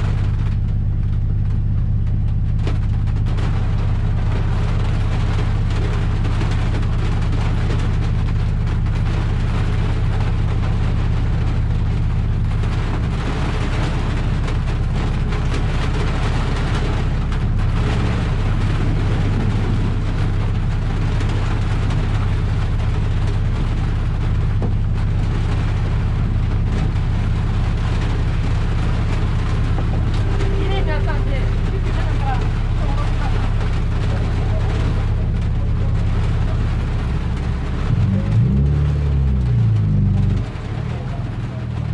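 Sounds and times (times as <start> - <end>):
car engine running at speed: 0.0 - 41.9
heavy rain and tyre spray: 0.0 - 41.9.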